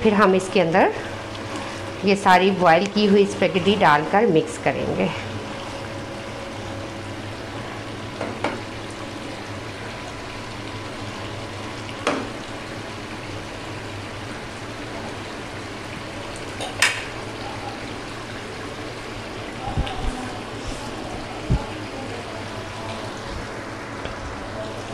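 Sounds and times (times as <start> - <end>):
food sizzling and bubbling in wok: 0.0 - 24.9.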